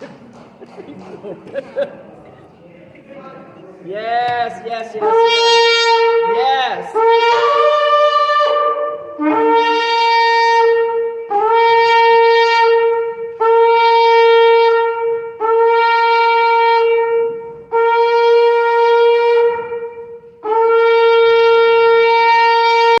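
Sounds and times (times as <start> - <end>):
ram's horn blasts: 4.2 - 23.0.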